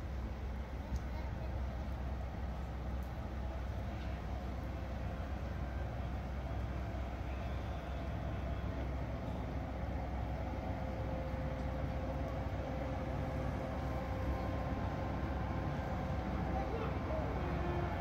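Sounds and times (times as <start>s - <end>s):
locomotive rumble with steady tone: 0.0s - 18.0s.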